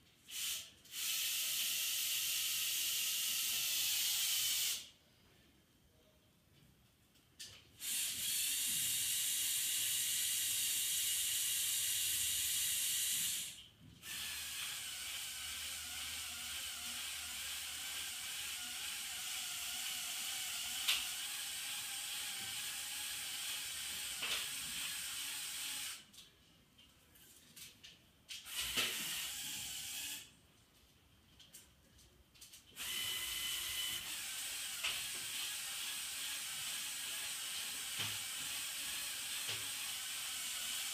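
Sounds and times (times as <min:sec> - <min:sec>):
toy crane motors whirring: 0:00.2 - 0:04.9, 0:07.8 - 0:26.1, 0:28.4 - 0:30.4, 0:32.5 - 0:40.9.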